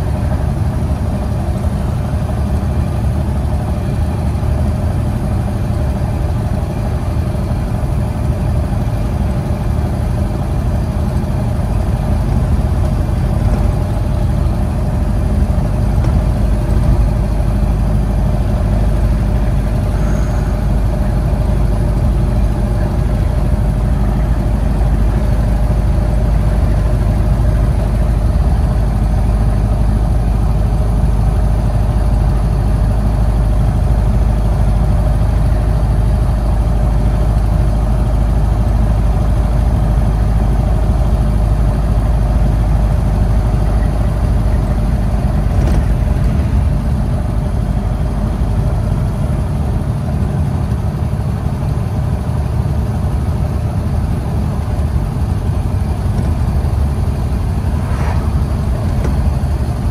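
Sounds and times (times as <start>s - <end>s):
car engine running: 0.0s - 59.9s
road noise: 0.0s - 59.9s.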